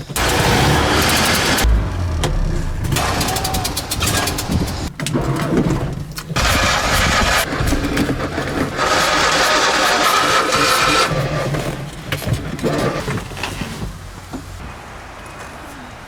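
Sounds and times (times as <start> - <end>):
engine cranking and sputtering: 0.0 - 14.3.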